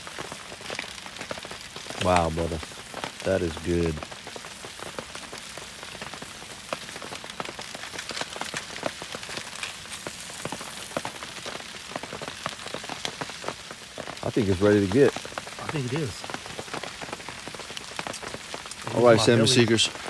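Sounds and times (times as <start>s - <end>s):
rain pattering on a surface: 0.0s - 20.0s
raindrop ticks: 0.1s - 20.0s.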